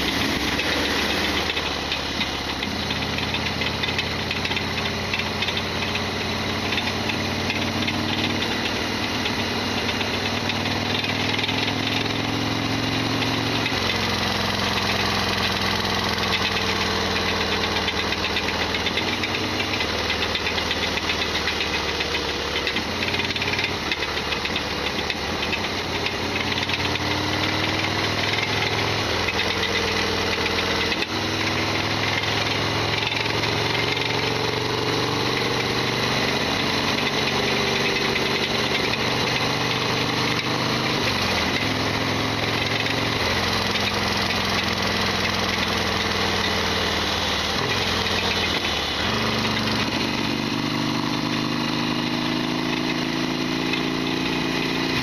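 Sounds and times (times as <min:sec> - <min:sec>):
loud mechanical rattle: 0:00.0 - 0:12.2, 0:12.8 - 0:50.9
motorcycle engine running: 0:00.0 - 0:55.0.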